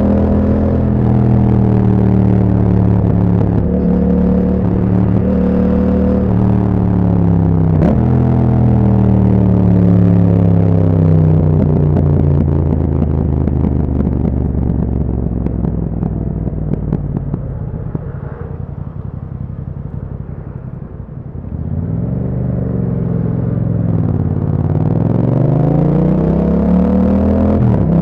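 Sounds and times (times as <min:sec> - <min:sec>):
exhaust crackles: 0:00.0 - 0:28.0
motorcycle engine revving: 0:00.0 - 0:28.0.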